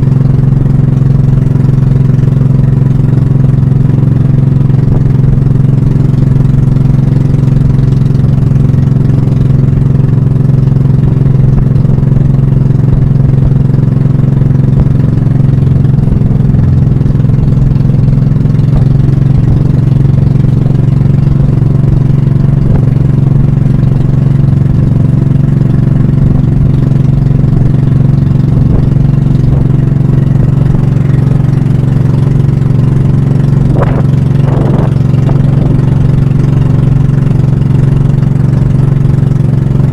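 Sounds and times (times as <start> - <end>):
boat inboard engine running: 0.0 - 39.9.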